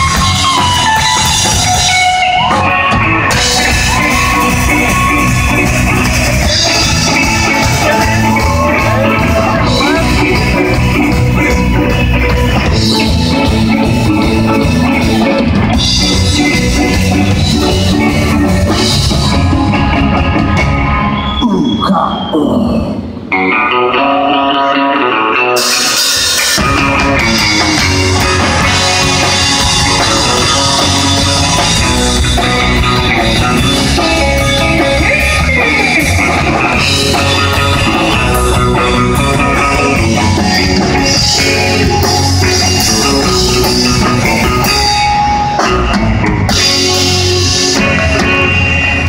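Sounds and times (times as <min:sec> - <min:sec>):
electric guitar: 0:00.0 - 0:49.0
live rock band playing: 0:00.0 - 0:49.0.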